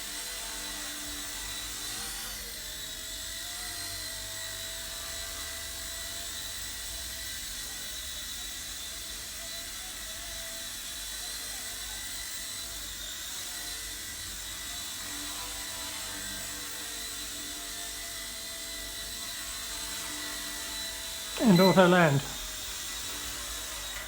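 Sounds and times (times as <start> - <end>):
toy helicopter rotor whine: 0.0 - 20.8.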